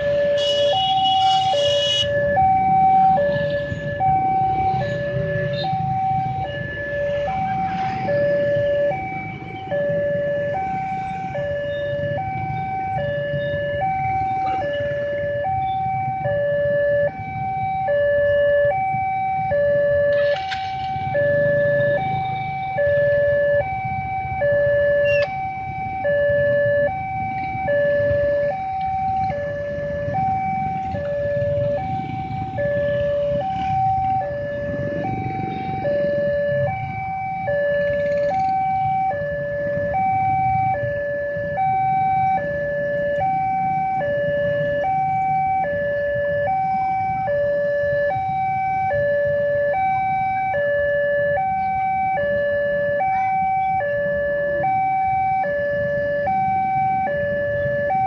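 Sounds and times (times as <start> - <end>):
low rumble of vehicle engines: 0.0 - 58.0
two-tone crossing alarm: 0.0 - 58.0.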